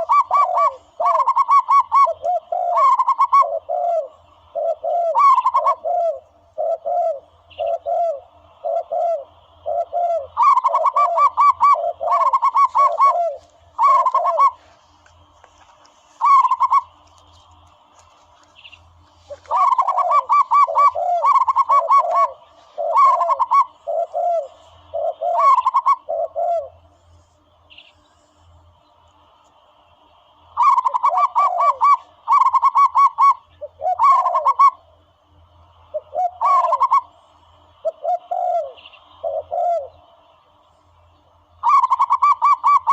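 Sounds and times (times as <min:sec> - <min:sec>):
dove cooing notes: 0:00.0 - 0:28.4, 0:30.3 - 0:40.6, 0:41.4 - 0:42.9.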